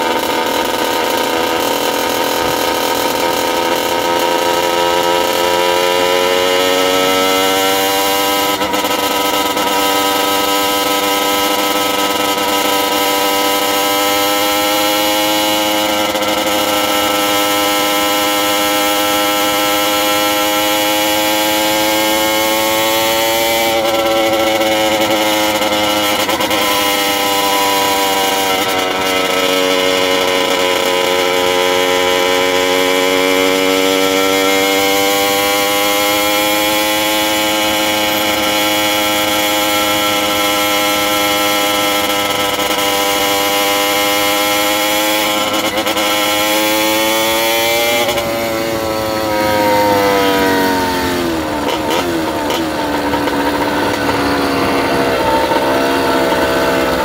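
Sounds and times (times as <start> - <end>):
motorized bicycle engine running: 0.0 - 47.4, 48.0 - 57.0.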